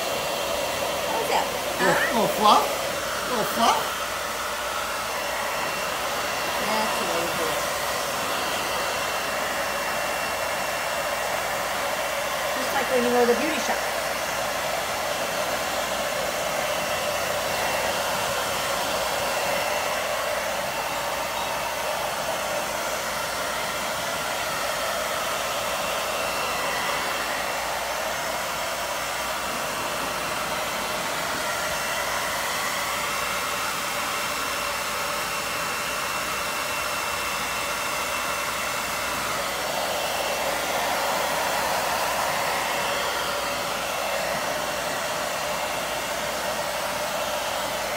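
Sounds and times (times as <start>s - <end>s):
hair dryer blowing air: 0.0s - 47.9s.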